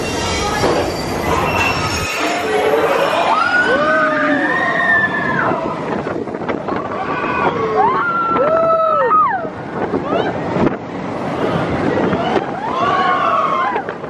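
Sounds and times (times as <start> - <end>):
roller coaster car on track: 0.0 - 14.0
wind on microphone: 0.0 - 14.0.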